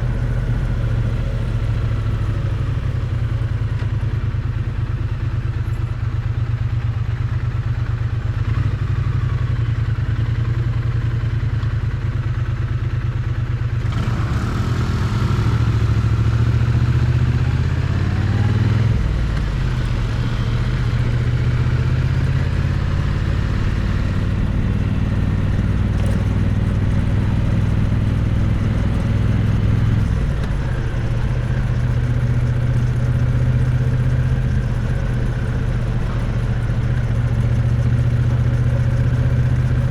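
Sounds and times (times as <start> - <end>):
wind and road noise: 0.0 - 7.2, 13.8 - 39.9
motorcycle engine running: 0.0 - 39.9.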